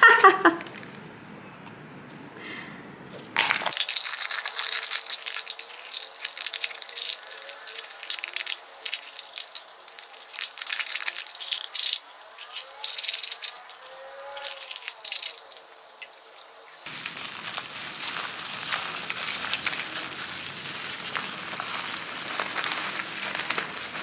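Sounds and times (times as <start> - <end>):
brittle sheets crunching and snapping: 3.4 - 24.0.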